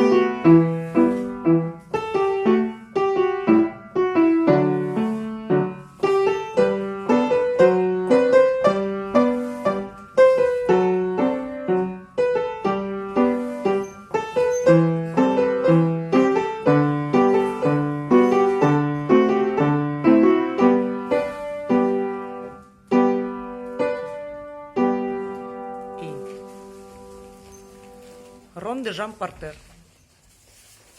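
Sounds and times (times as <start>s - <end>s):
piano playing: 0.0s - 28.9s.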